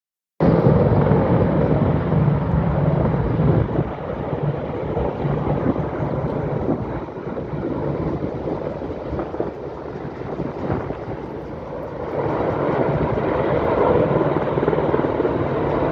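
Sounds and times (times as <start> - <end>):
helicopters flying over: 0.4 - 15.9.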